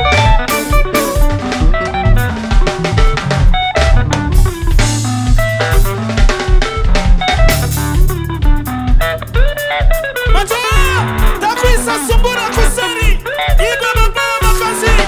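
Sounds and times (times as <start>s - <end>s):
bass guitar: 0.0s - 15.0s
drum kit beat: 0.0s - 15.0s
electric guitar lines: 0.0s - 15.0s.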